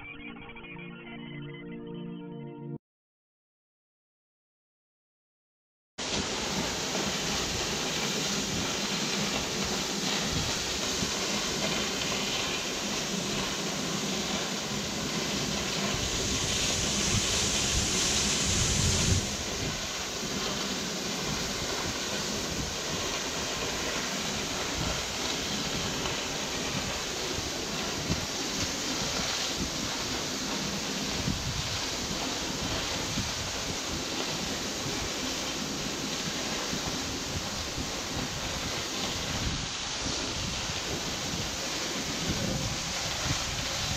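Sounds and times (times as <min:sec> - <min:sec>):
waterfall rushing: 0:06.0 - 0:43.9.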